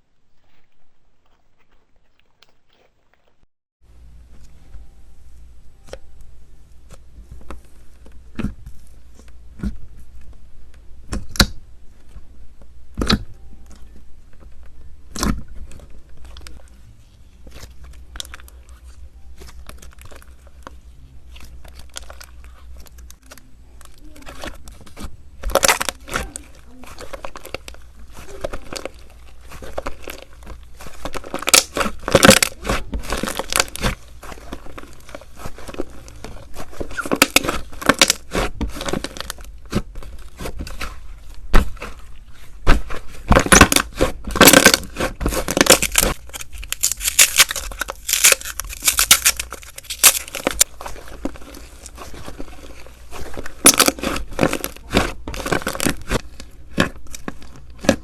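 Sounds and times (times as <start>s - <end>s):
slime squelching and crackling: 0.0s - 3.5s, 11.0s - 58.0s.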